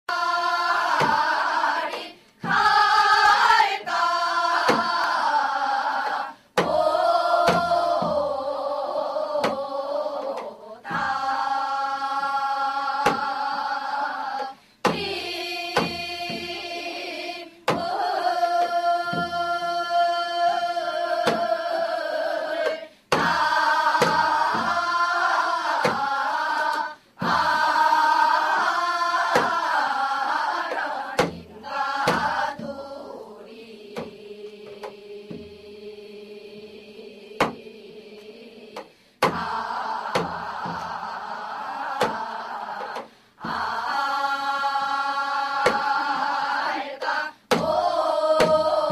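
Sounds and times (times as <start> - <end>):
hourglass drum strokes: 0.1 - 35.9, 36.9 - 48.9
chorus singing folk song: 0.1 - 48.9.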